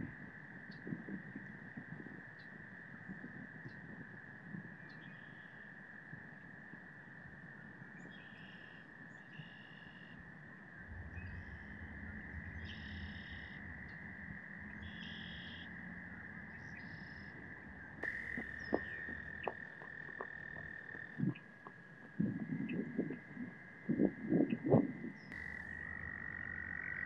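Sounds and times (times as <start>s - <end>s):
frogs short repeated calls: 0.0s - 27.0s.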